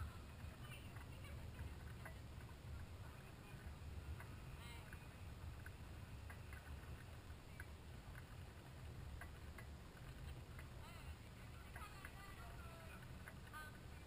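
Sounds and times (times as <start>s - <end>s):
faint low rumble: 0.0s - 14.0s
faint ticks: 0.4s - 14.0s.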